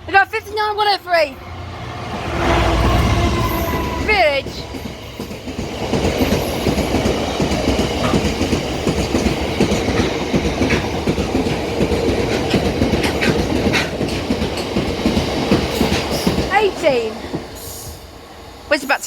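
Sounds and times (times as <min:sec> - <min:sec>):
freight train wheels clattering: 0:02.0 - 0:18.2.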